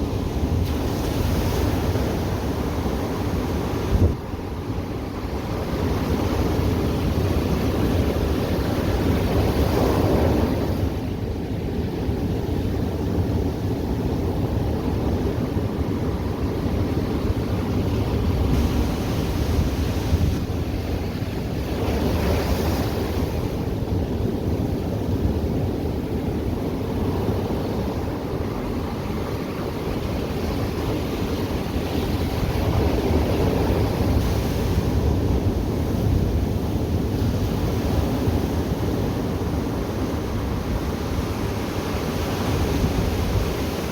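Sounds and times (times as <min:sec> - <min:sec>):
ocean surf washing onto beach: 0:00.0 - 0:43.9
wind rumble on microphone: 0:00.0 - 0:43.9.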